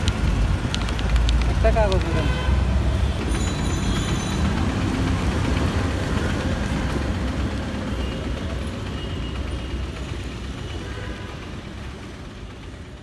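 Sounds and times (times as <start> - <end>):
traffic engines rumbling: 0.0 - 13.0.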